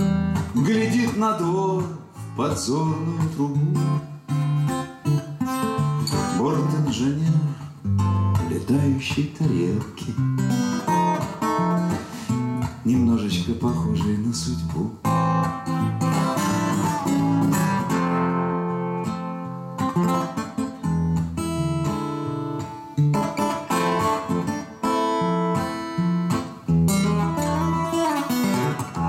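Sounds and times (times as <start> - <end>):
solo acoustic guitar chords: 0.0 - 29.0.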